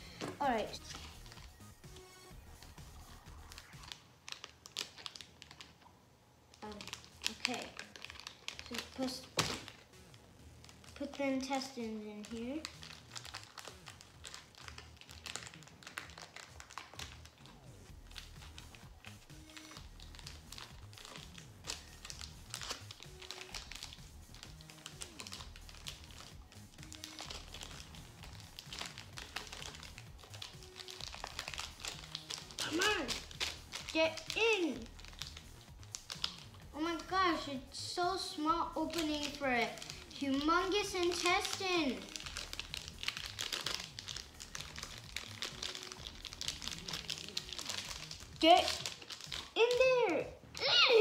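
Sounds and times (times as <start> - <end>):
plastic bag crinkling: 0.0 - 1.8, 2.4 - 5.9, 6.5 - 50.0
quiet background music: 0.0 - 51.0.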